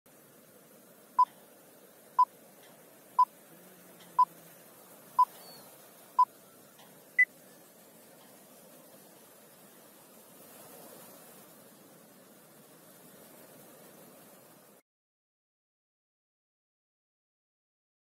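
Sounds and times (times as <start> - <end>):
faint hiss: 0.1 - 14.8.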